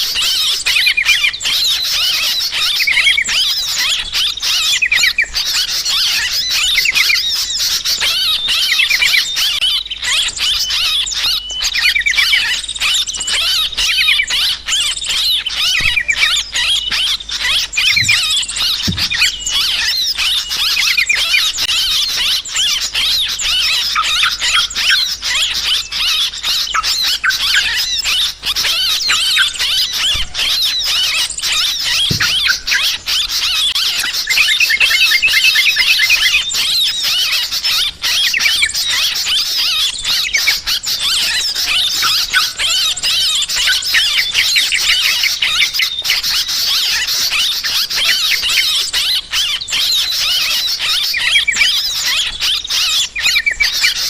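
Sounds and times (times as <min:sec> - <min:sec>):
bulbuls chattering calls: 0:00.0 - 0:54.0
small birds chirping: 0:00.0 - 0:54.0.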